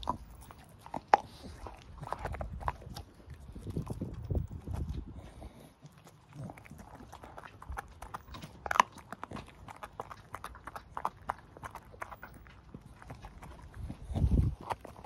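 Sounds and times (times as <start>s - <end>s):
dog gnawing bone crunches: 0.0s - 15.0s.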